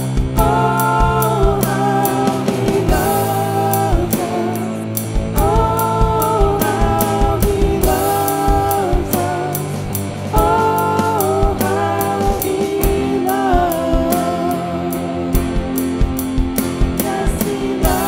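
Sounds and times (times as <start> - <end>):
drum beat: 0.0 - 18.0
people singing: 0.0 - 18.0.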